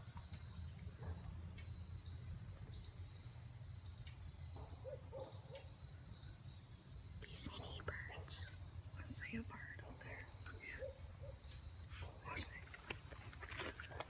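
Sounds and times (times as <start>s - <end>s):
high insect drone: 0.0s - 13.7s.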